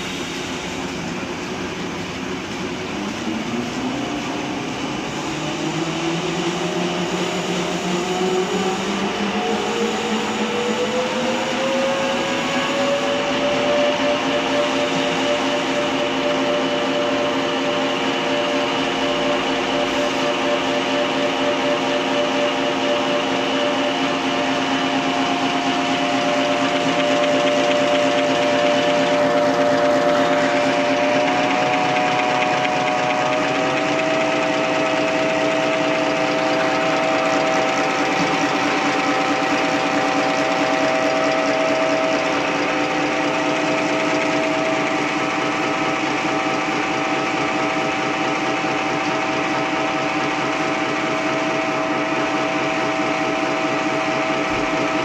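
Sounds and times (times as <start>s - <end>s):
napkin folding machine running: 10.0s - 55.0s.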